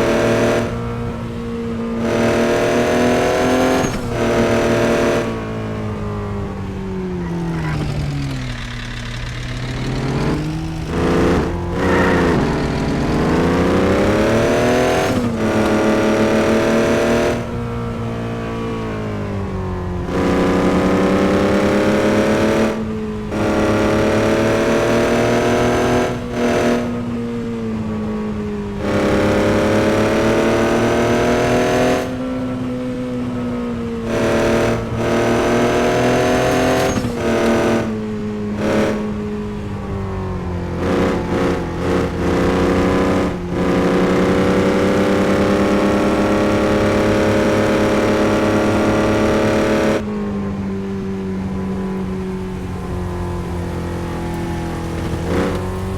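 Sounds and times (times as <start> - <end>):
truck engine revving: 0.0 - 50.2, 51.5 - 55.9.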